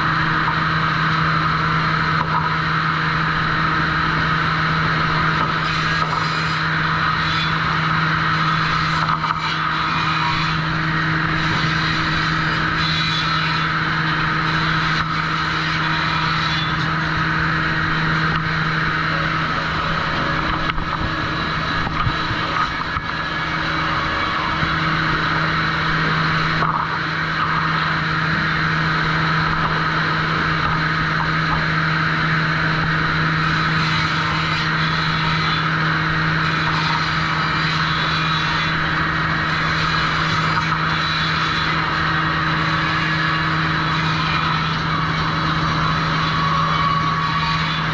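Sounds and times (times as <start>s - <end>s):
machinery low hum: 0.0s - 41.0s
saw whirring: 0.0s - 47.9s.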